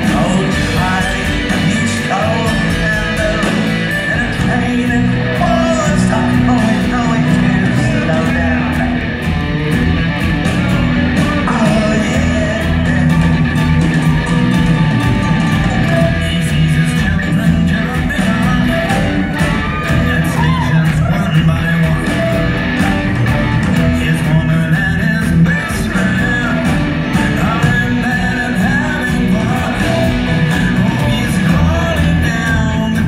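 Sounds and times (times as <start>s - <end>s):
man singing lead vocal: 0.0s - 9.3s, 10.7s - 33.0s
live rock band playing: 0.0s - 33.0s.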